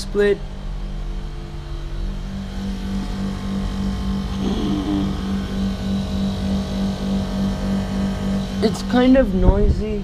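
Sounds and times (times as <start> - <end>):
air conditioner compressor hum: 0.0 - 10.0.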